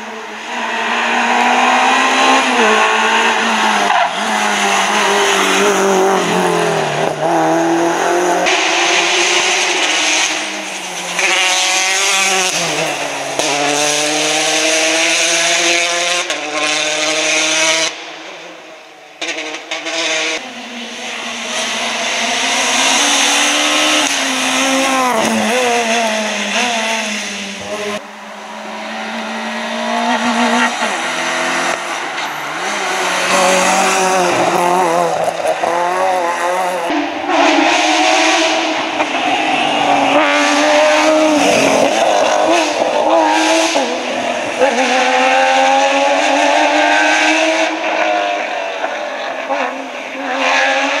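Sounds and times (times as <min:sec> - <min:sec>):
rally car engine at high revs: 0:00.0 - 0:51.0.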